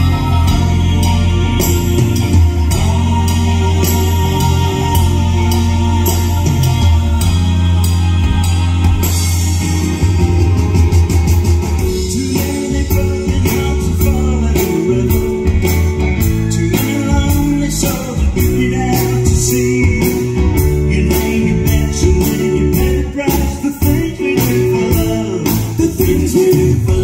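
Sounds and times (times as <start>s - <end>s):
man singing lead: 0.0s - 10.2s, 11.8s - 27.0s
drums steady beat: 0.0s - 27.0s
electric bass: 0.0s - 27.0s
electric guitar: 0.0s - 27.0s
keyboards: 0.0s - 27.0s.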